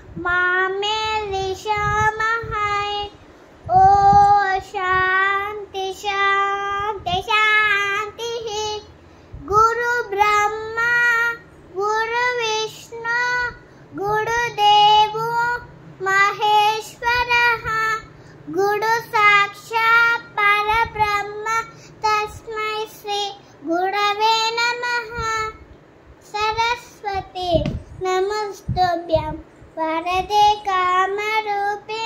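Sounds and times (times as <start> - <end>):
girl chanting in sing-song voice: 0.0 - 32.0.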